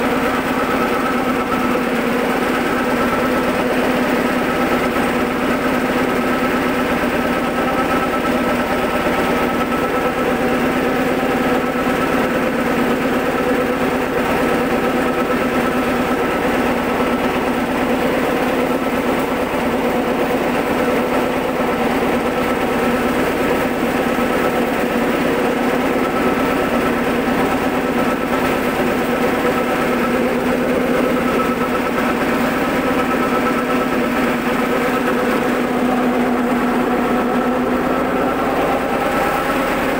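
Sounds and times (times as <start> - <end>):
soybean cracking machine running: 0.0 - 39.9.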